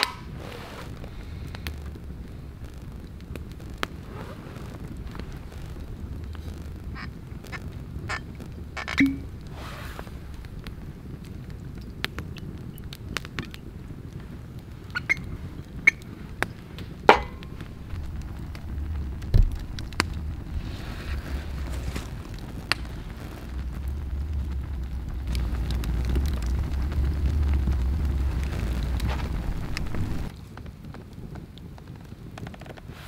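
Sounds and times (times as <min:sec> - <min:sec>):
campfire crackling: 0:00.0 - 0:33.0
fire pops: 0:00.0 - 0:33.0
low rumble: 0:00.2 - 0:12.8, 0:15.4 - 0:30.4.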